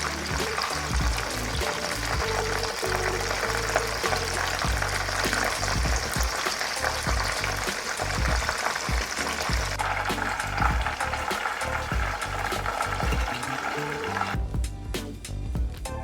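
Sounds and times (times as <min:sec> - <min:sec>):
low musical beat: 0:00.0 - 0:13.4, 0:14.4 - 0:16.0
wings deep-frying in oil: 0:00.0 - 0:14.5.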